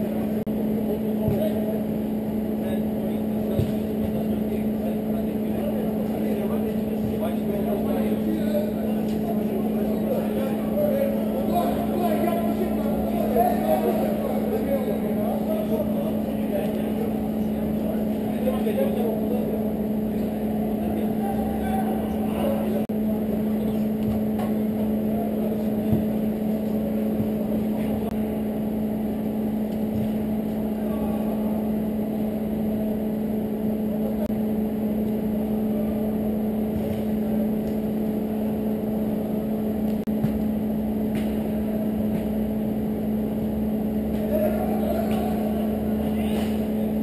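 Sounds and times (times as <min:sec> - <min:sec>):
machine hum: 0:00.0 - 0:47.0.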